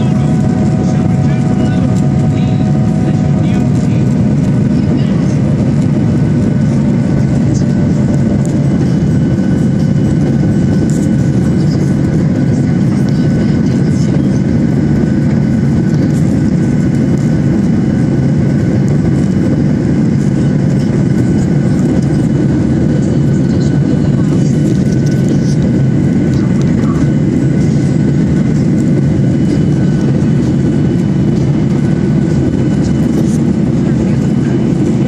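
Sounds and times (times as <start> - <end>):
jet engine and airflow rush: 0.0 - 35.0.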